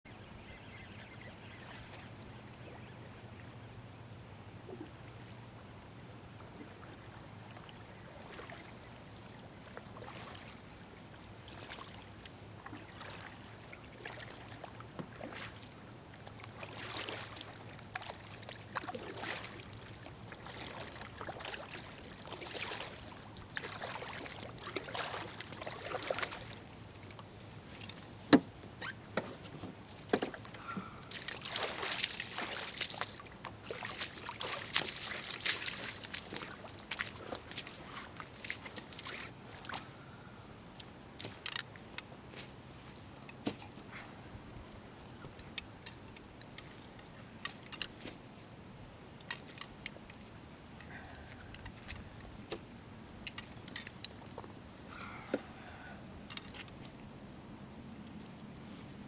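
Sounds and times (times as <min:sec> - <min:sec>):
water sloshing and splashing: 0:06.4 - 0:57.2.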